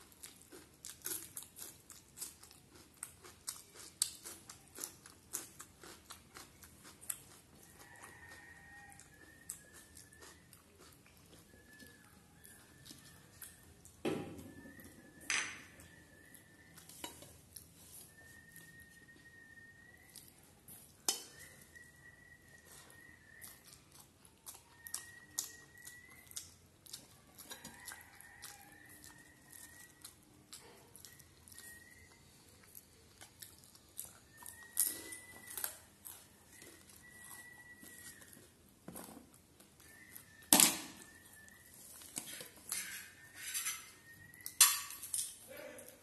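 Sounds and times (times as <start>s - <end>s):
faint high whistling tone: 7.6s - 46.0s.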